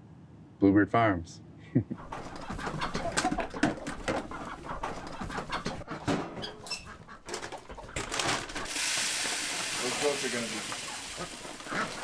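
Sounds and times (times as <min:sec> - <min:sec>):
poultry clucking: 0:02.0 - 0:12.0.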